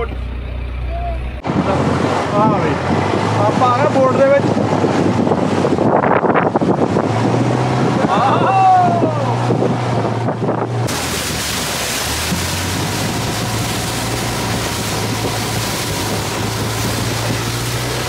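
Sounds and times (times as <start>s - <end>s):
boat engine drone: 0.0s - 18.0s
water noise: 0.0s - 18.0s
wind on microphone: 1.4s - 18.0s.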